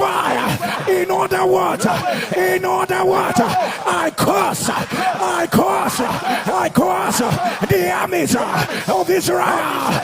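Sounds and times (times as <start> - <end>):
preacher shouting: 0.0 - 10.0.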